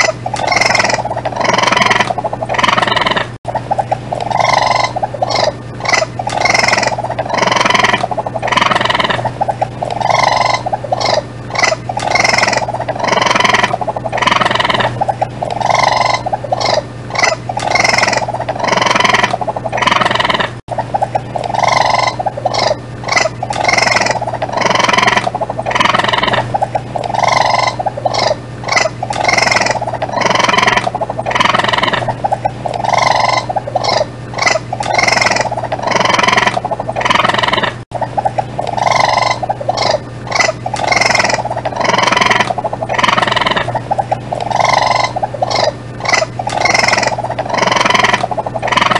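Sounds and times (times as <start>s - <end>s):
raccoon calling: 0.0s - 48.9s
steady low hum: 0.0s - 48.9s.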